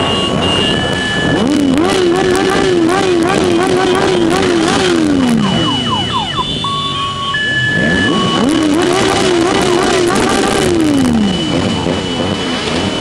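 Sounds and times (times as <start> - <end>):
horn blasts: 0.0 - 13.0
motorcycle engine revving: 0.0 - 13.0.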